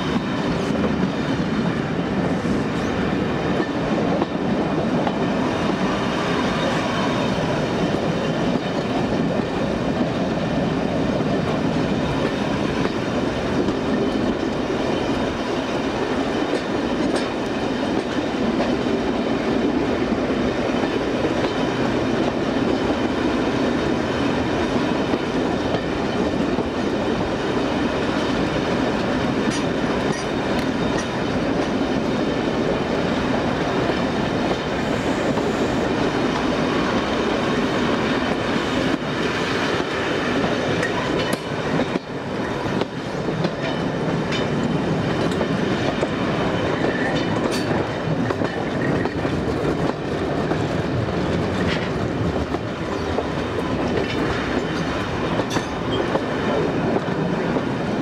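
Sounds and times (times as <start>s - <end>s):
wheels clicking over rail joints: 3.5s - 35.5s, 38.0s - 57.9s.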